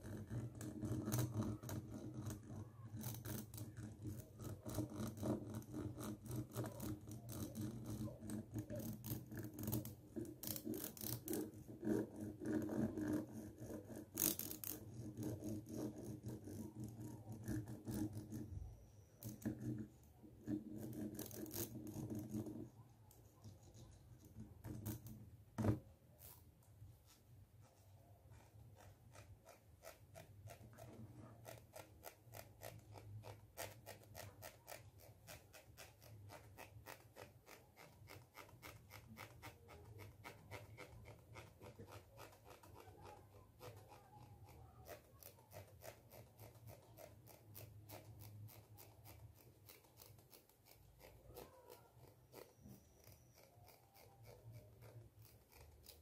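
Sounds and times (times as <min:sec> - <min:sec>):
plastic comb teeth scratching: 0:00.0 - 0:25.2, 0:28.3 - 0:56.0.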